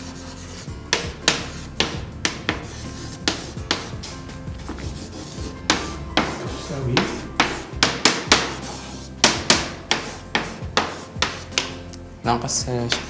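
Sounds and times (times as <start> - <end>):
chalk tapping and scratching: 0.0 - 12.0, 12.7 - 13.0.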